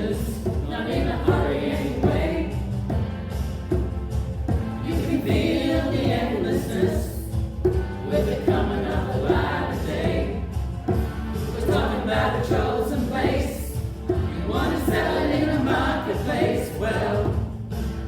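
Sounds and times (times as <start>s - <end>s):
choir singing: 0.0s - 3.0s, 4.5s - 7.4s, 8.0s - 17.7s
low accompaniment: 0.0s - 18.0s.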